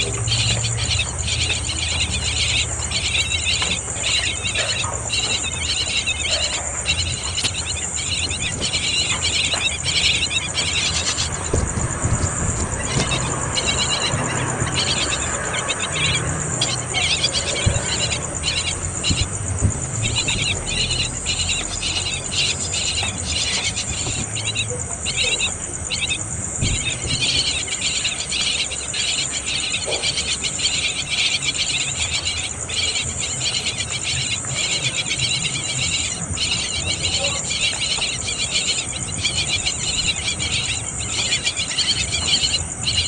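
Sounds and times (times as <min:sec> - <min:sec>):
insect chirring bursts: 0:00.0 - 0:43.0
insect chorus droning: 0:00.0 - 0:43.0.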